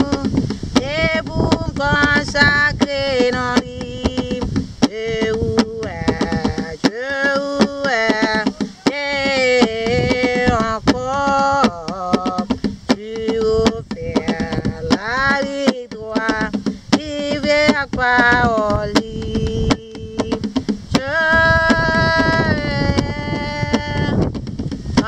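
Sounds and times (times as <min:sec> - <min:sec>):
woman singing: 0:00.0 - 0:24.3.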